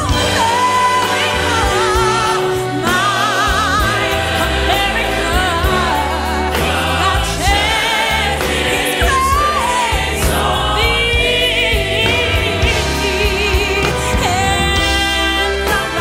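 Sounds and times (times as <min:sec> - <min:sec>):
choir singing with instruments: 0:00.0 - 0:16.0.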